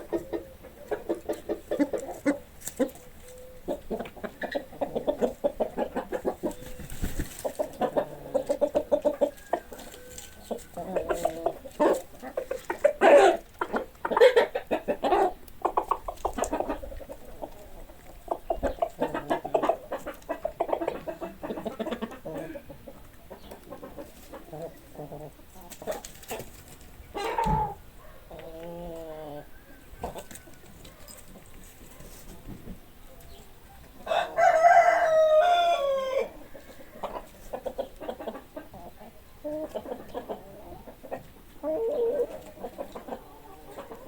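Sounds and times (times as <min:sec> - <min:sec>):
hens clucking: 0:00.0 - 0:44.0.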